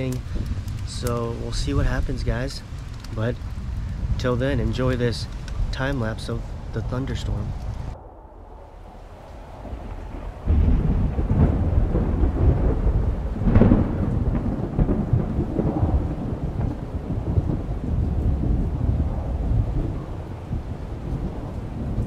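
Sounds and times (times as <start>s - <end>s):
rain: 0.0s - 22.0s
thunder rumbling: 0.0s - 22.0s.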